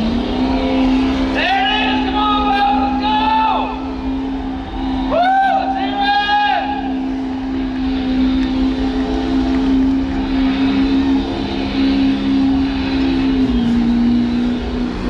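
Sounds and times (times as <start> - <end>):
truck engine at high revs: 0.0 - 15.0.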